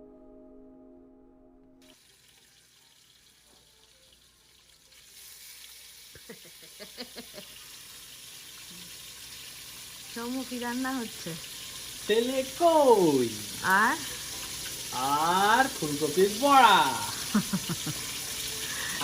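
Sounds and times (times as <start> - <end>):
fish frying in hot oil: 1.9 - 19.0.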